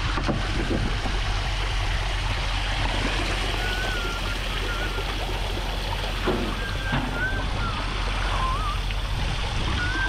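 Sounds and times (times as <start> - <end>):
water pouring and trickling: 0.0 - 10.0
water splashing into lake: 0.0 - 10.0.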